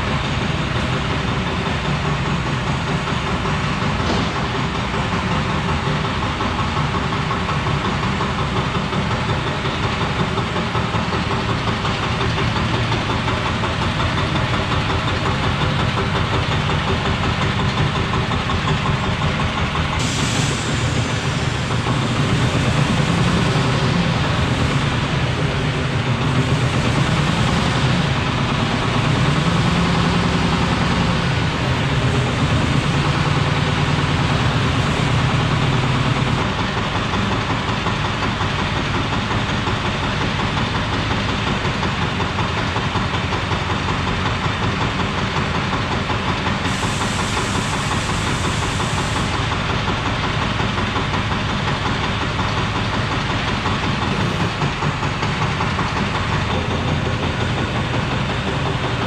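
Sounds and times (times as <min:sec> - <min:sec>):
diesel engine knocking: 0:00.0 - 0:59.0.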